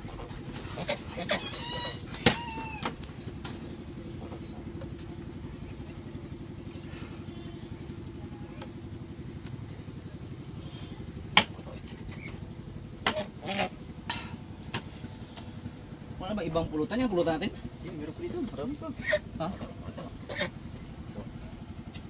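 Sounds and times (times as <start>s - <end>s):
small engine idling: 0.0s - 22.0s.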